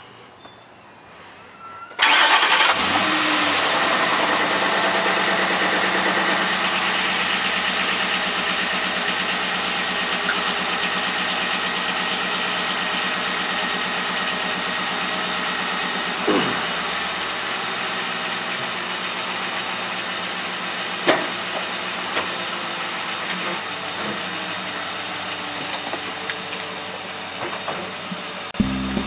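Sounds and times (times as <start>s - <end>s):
car engine idling: 2.0s - 27.5s, 28.2s - 29.0s.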